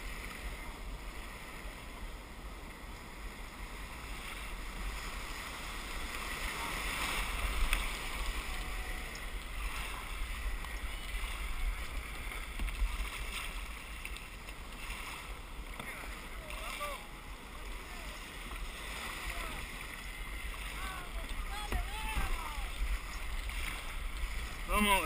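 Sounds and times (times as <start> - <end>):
surf foaming and rushing: 0.0 - 25.0.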